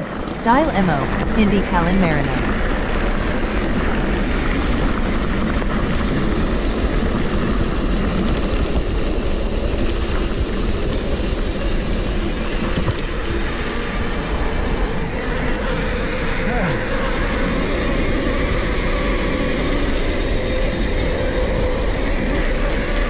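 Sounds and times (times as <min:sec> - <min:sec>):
bike tyre rumble: 0:02.6 - 0:23.0.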